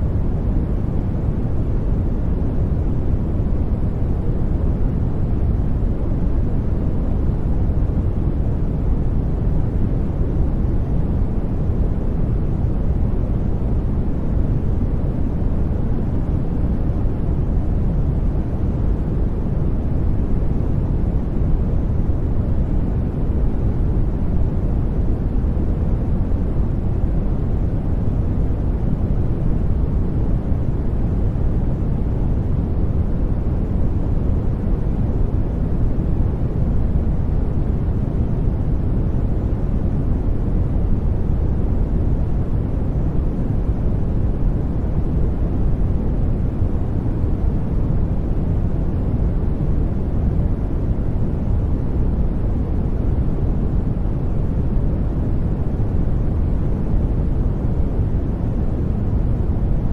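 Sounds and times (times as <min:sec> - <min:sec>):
deep rushing white noise: 0:00.0 - 0:59.9.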